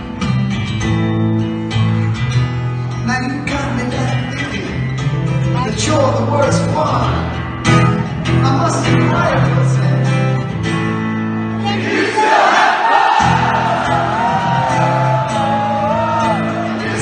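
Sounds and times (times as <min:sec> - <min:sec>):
acoustic guitar: 0:00.0 - 0:12.0, 0:13.0 - 0:17.0.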